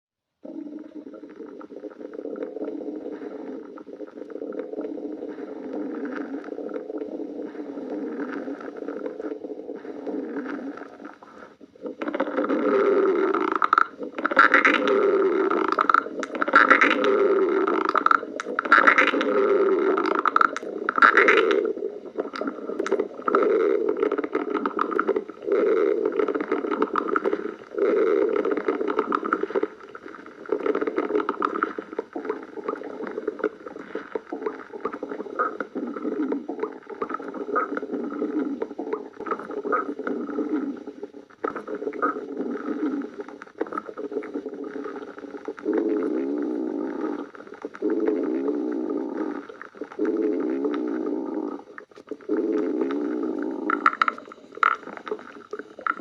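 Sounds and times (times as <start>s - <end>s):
stomach growling: 0.3s - 56.0s.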